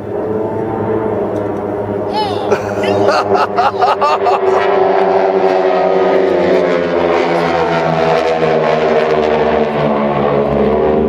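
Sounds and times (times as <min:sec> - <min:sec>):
aircraft engine drone overhead: 0:00.0 - 0:11.0.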